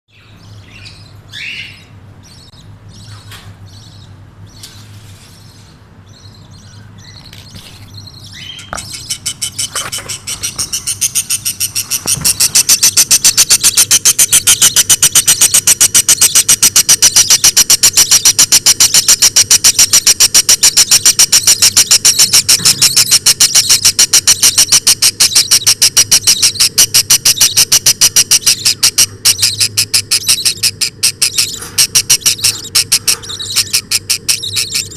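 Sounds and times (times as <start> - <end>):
budgerigar chicks cheeping: 0.1 - 34.9.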